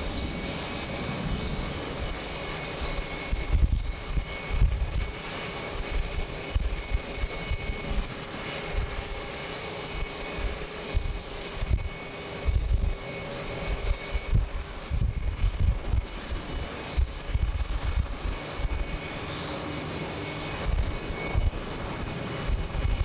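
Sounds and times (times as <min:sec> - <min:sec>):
jet engines distant rumble: 0:00.0 - 0:23.0
wind buffeting microphone: 0:00.0 - 0:23.0.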